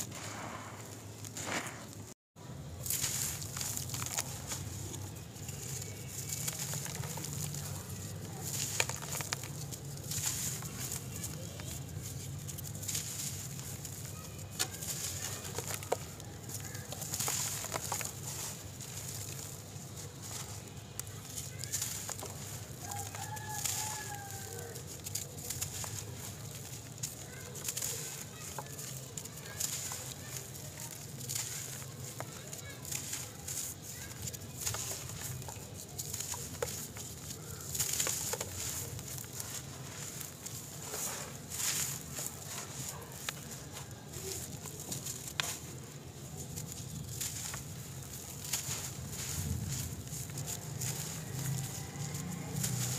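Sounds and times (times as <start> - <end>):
dirt clumps crackling: 0.0 - 52.9
dry dirt rustling by hand: 0.0 - 52.9
soil pattering down: 0.0 - 52.9.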